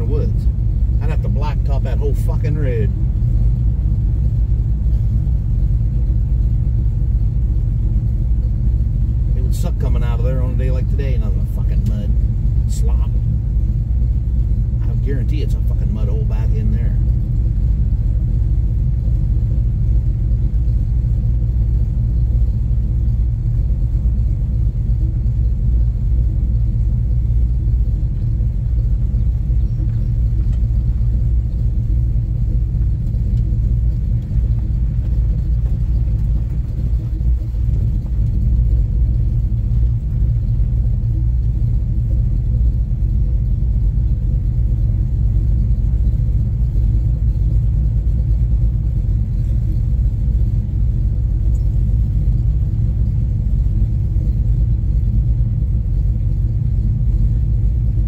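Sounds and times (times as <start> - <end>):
car engine running steadily: 0.0 - 58.0.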